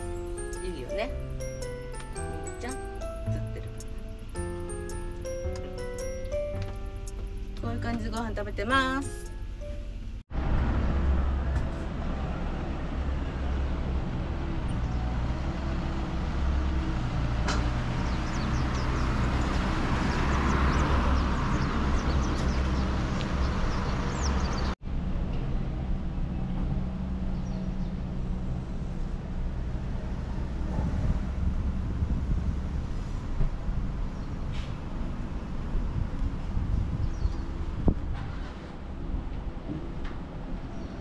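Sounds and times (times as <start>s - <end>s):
passing vehicle: 0.0s - 41.0s
traffic rumble: 0.0s - 41.0s.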